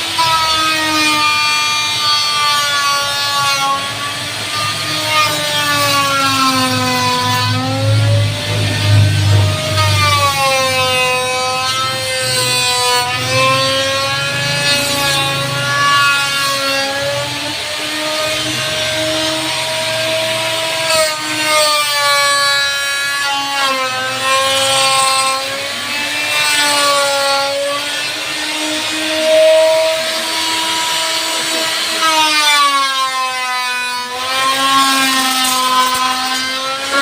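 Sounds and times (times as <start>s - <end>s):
power tool cutting wood: 0.0s - 37.0s.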